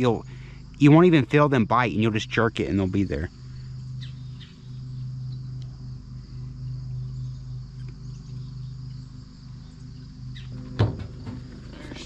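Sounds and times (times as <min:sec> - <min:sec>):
crickets and insects chirring: 0:00.0 - 0:12.0
steady low hum: 0:00.0 - 0:12.0.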